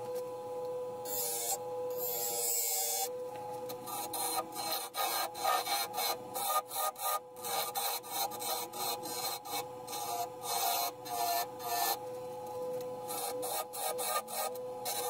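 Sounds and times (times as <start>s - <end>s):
wood lathe humming: 1.0s - 15.0s
turning tool scraping wood: 1.1s - 15.0s.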